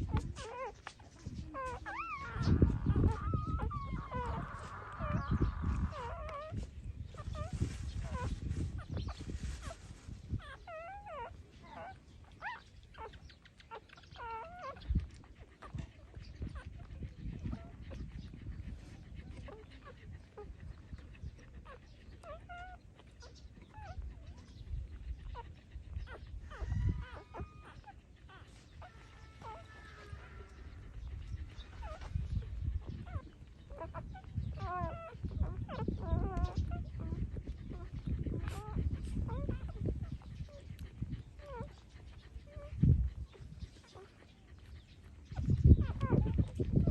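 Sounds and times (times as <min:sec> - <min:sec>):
puppies whimpering and squeaking: 0:00.0 - 0:46.9.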